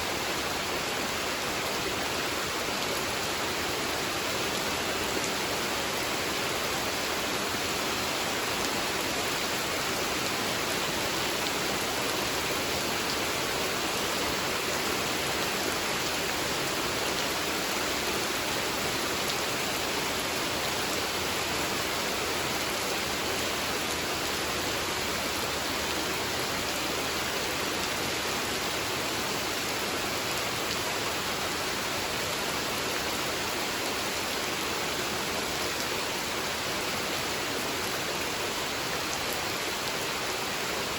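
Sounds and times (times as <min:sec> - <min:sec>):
rain falling on a pond: 0:00.0 - 0:40.9.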